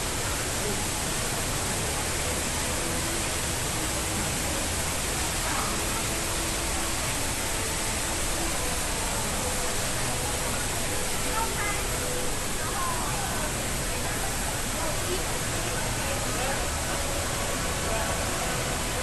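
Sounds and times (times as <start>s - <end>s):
faint chatter of people: 0.0s - 19.0s
waterfall rushing: 0.0s - 19.0s.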